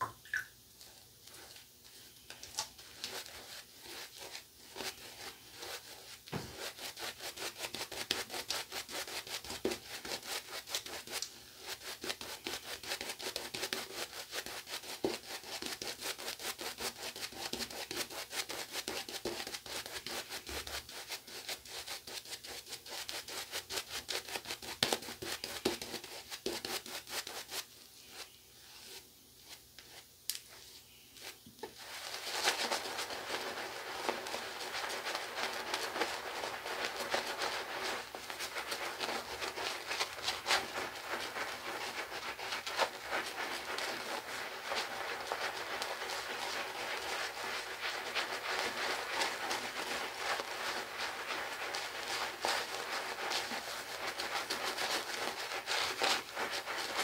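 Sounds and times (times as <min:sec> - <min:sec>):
shaving brush scrubbing lather: 0:00.9 - 0:30.0, 0:31.2 - 0:57.0.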